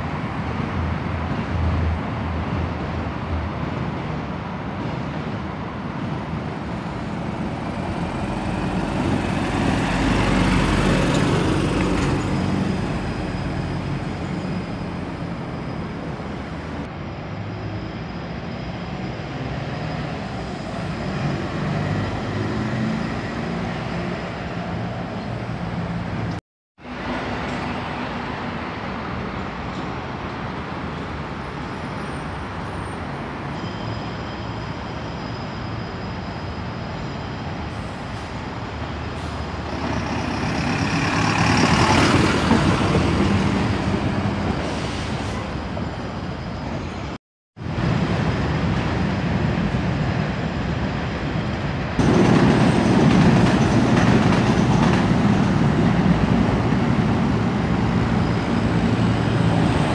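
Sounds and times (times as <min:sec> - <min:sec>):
bus driving past: 0:00.0 - 0:59.9
traffic noise: 0:00.0 - 0:59.9.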